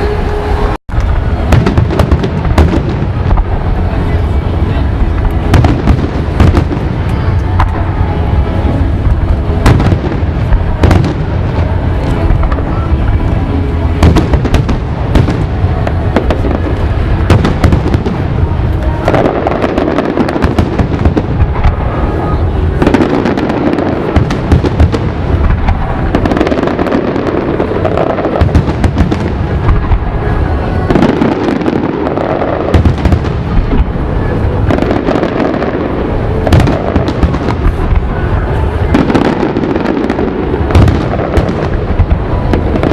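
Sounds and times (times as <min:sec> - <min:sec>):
fireworks booming: 0:00.0 - 0:42.9.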